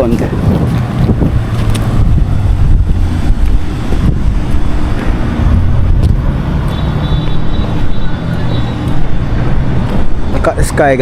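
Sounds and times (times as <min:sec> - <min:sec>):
vehicle engine running: 0:00.0 - 0:10.6
wind buffeting microphone: 0:00.0 - 0:11.0.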